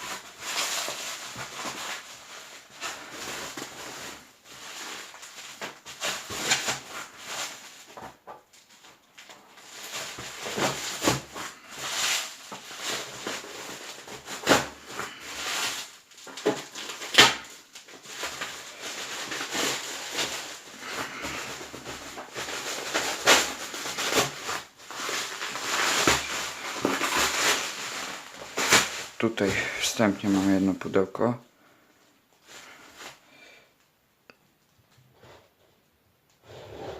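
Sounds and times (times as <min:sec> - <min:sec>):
plastic film crinkling and tearing: 0:00.0 - 0:31.1, 0:32.3 - 0:33.6.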